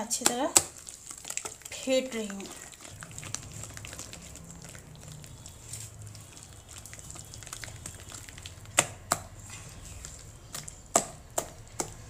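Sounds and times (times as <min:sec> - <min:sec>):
batter squishing and slapping: 0:00.0 - 0:12.0.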